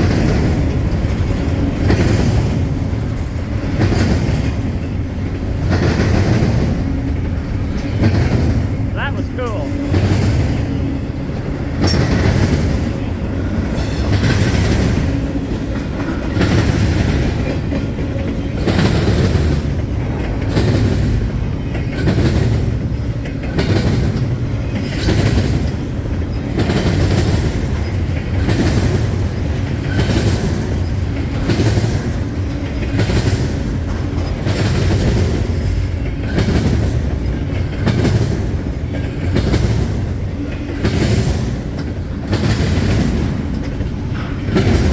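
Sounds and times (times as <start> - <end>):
freight train rumbling past: 0.0 - 44.9
wheels clacking over rail joints: 0.0 - 44.9.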